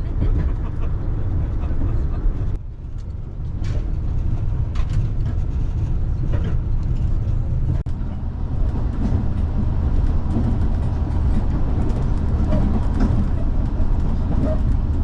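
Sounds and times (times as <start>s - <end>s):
diesel train rumble from inside: 0.0s - 15.0s.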